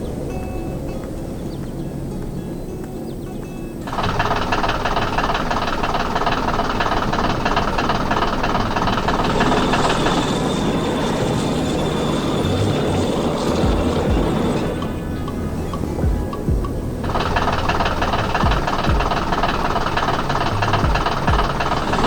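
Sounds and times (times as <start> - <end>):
heavy machine engine rattling: 3.1 - 22.0.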